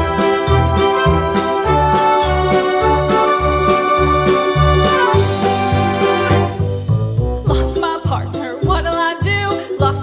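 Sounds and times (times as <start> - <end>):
keyboard instrumental music: 0.0 - 9.0.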